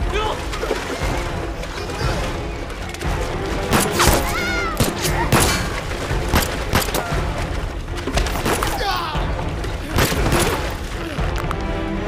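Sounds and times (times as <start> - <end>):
dramatic film score: 0.0 - 12.0.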